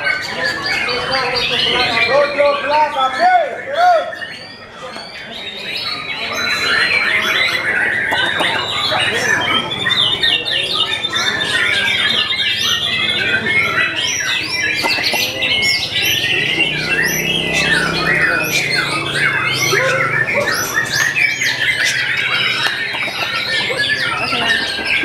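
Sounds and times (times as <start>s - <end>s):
bird song with whistles and trills: 0.0s - 25.0s.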